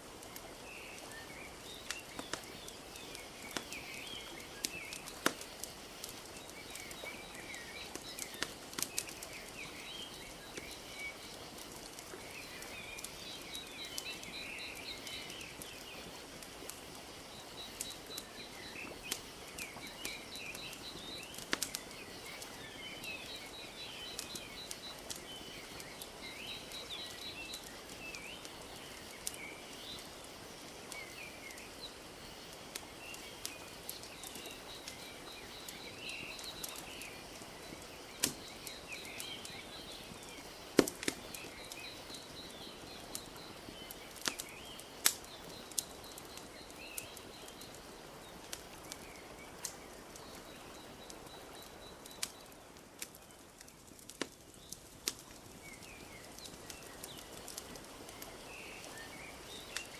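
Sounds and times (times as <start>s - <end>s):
small birds chirping: 0.0s - 59.9s
wood fire crackling and popping: 0.0s - 59.9s.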